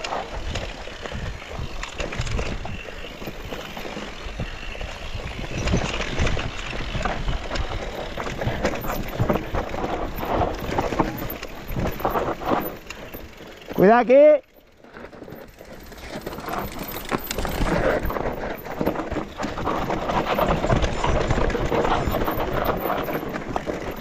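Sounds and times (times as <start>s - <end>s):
bike rattling over bumps: 0.0s - 24.0s
bike tyres on dirt: 0.0s - 24.0s.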